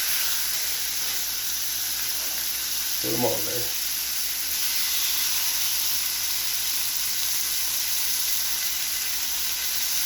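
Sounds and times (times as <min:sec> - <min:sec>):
chicken sizzling on a griddle: 0:00.0 - 0:10.0.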